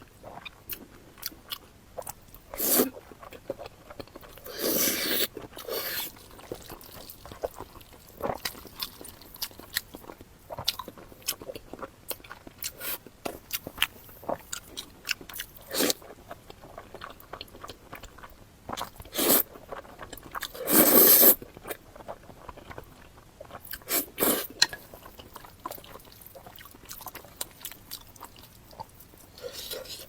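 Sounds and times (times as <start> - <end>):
chewing and crunching: 0.0 - 30.0.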